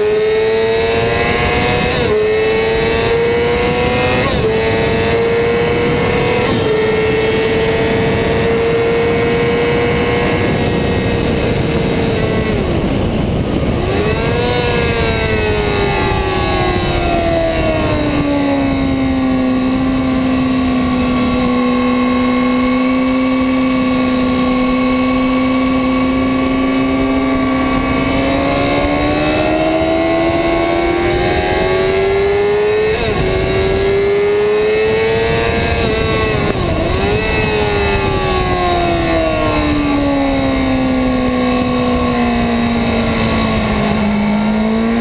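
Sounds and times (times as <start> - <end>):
motorcycle engine at speed: 0.0 - 45.0.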